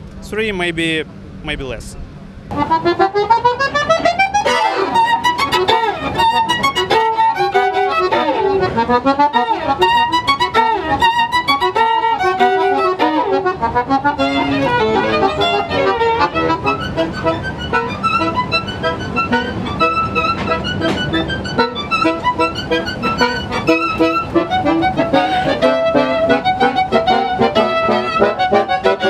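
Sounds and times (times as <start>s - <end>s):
fast fiddle melody: 2.5s - 29.0s.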